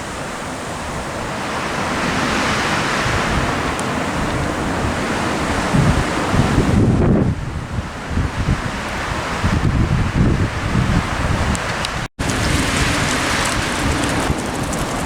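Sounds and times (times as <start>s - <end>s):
wind buffeting microphone: 0.7s - 15.0s.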